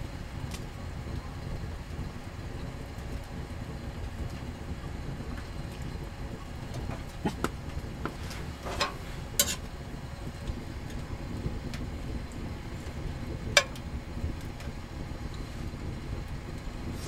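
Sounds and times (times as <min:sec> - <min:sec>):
wind against tent: 0:00.0 - 0:17.0.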